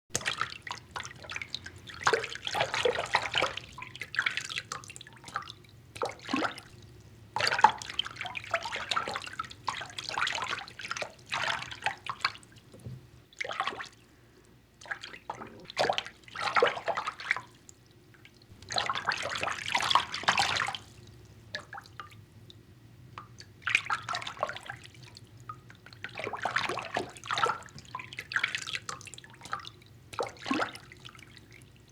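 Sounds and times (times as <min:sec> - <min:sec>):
bathwater sloshing and splashing: 0:00.2 - 0:22.2, 0:23.2 - 0:31.9
water dripping: 0:00.2 - 0:31.9.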